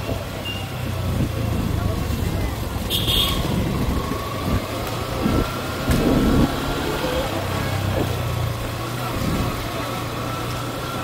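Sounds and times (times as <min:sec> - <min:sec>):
street and traffic noise: 0:00.0 - 0:11.0.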